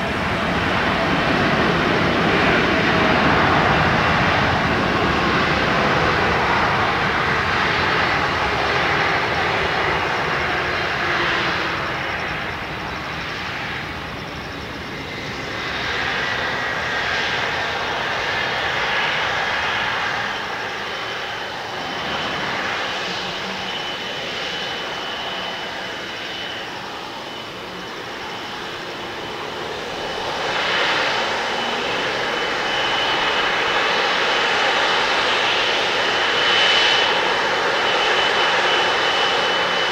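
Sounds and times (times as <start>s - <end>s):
jet engines whining at low power: 0.0s - 39.9s.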